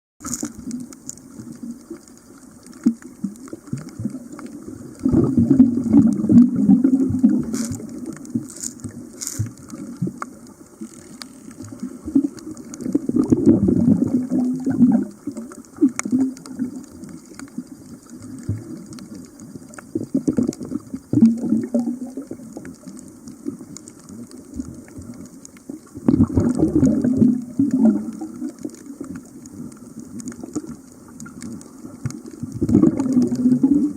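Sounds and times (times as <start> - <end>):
muffled water sloshing and gurgling: 0.2 - 33.9.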